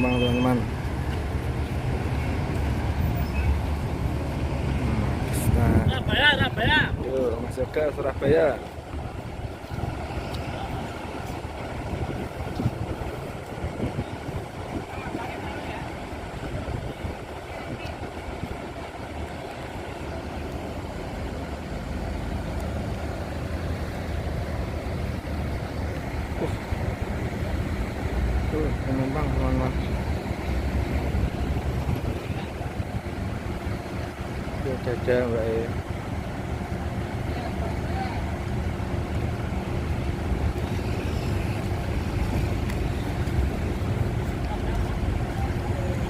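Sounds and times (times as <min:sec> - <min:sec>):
bus diesel engine idling: 0:00.0 - 0:46.0.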